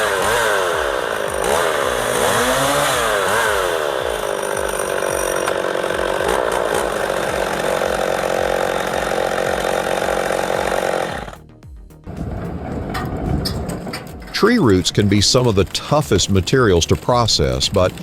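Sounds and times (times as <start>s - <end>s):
petrol saw engine revving: 0.0s - 18.0s.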